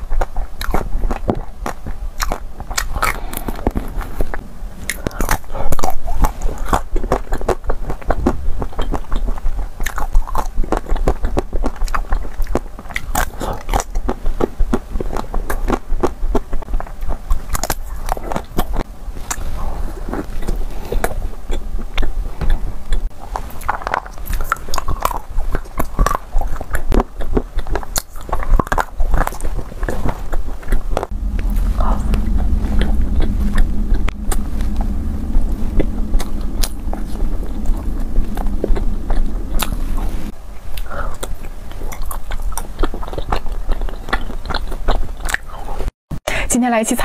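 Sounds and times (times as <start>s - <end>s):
chewing: 0.0s - 34.3s, 35.8s - 45.9s.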